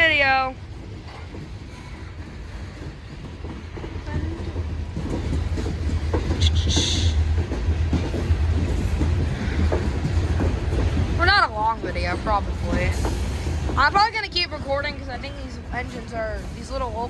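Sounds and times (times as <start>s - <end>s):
freight train rumbling past: 0.0s - 17.0s
wheels clicking over rail joints: 0.0s - 17.0s.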